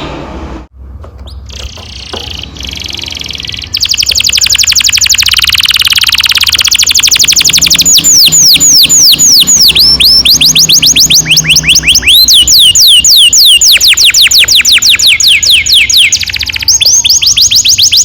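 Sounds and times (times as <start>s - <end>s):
canary singing: 1.2s - 18.0s.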